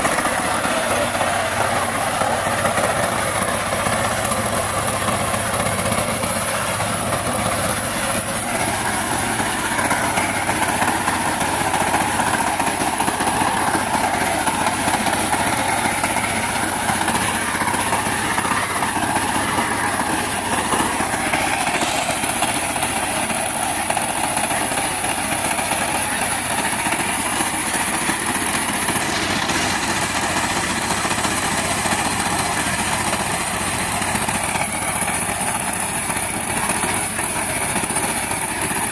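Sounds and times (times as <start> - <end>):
power tiller engine running: 0.0 - 38.9.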